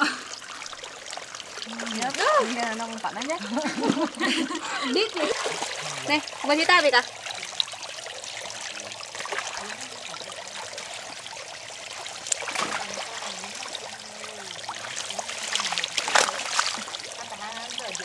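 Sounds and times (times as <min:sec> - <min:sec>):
fish splashing: 0:00.0 - 0:18.0
water trickling and sloshing: 0:00.0 - 0:18.0.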